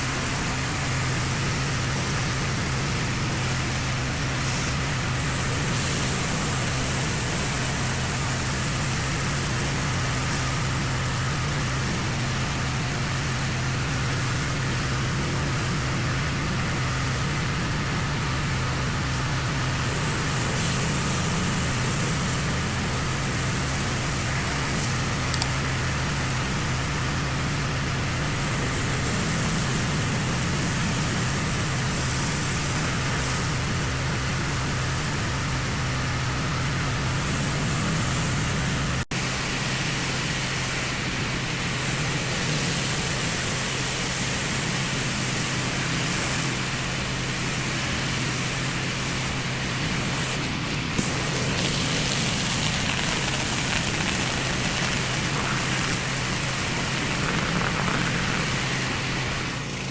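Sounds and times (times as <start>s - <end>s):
high-pressure water spray hiss: 0.0s - 59.9s
pressure washer motor hum: 0.0s - 59.9s.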